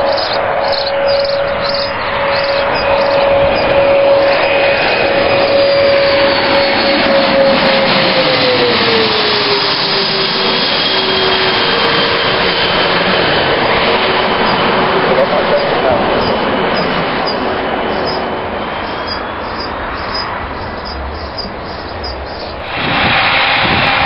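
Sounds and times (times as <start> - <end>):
jet engines passing: 0.0 - 24.0.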